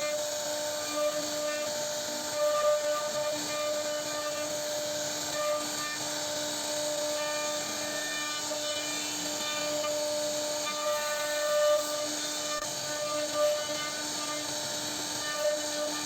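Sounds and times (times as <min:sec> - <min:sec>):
bit rasping through wood: 0:00.0 - 0:16.0
router spindle high whine: 0:00.0 - 0:16.0.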